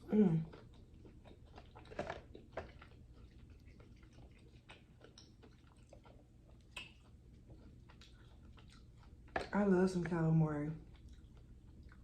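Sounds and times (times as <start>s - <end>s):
wet chewing mouth clicks: 0.0s - 10.2s, 10.8s - 12.0s.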